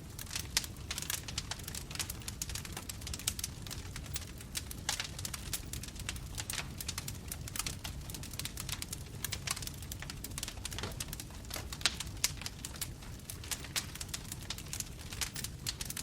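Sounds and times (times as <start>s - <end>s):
low rumble of flames: 0.0s - 16.0s
bonfire pops and snaps: 0.1s - 16.0s.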